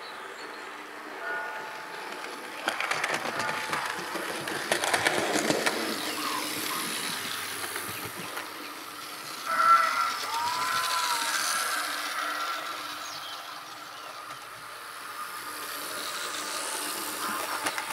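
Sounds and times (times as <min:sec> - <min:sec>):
model train wheels clicking: 0:02.0 - 0:17.9.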